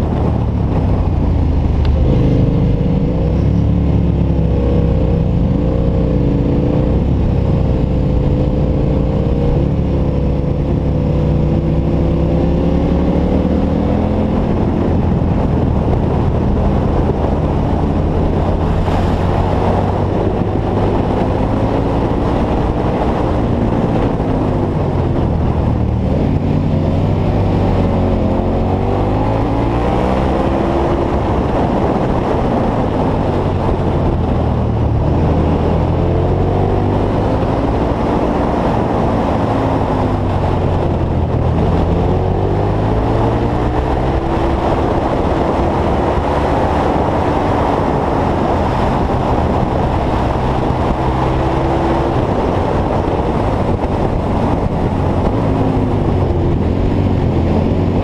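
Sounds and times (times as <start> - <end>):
motorcycle engine revving: 0.0 - 58.0
wind on microphone: 0.0 - 58.0.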